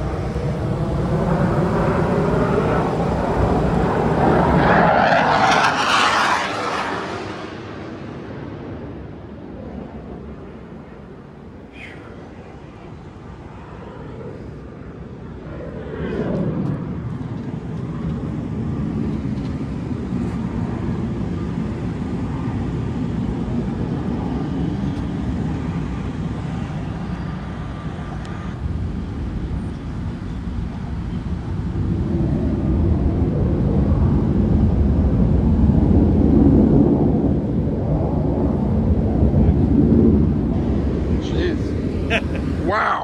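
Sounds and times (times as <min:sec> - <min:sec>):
airplane engine flying overhead: 0:00.0 - 0:43.0.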